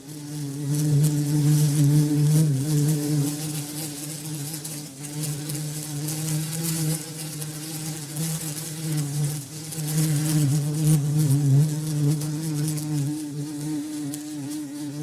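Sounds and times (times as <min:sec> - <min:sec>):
bumblebee buzzing: 0:00.0 - 0:15.0.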